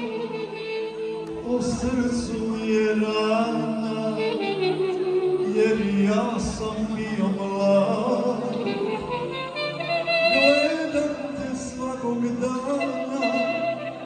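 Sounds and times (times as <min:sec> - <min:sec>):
backing music: 0:00.0 - 0:14.0
man singing into microphone: 0:01.2 - 0:14.0.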